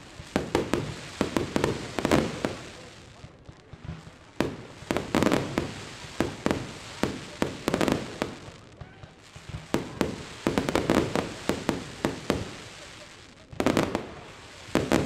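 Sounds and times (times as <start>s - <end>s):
firework bangs with echo: 0.0s - 15.0s.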